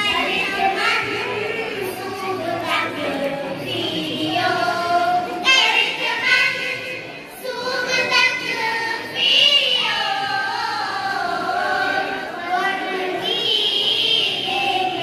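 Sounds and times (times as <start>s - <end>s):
girls singing in unison: 0.0s - 15.0s.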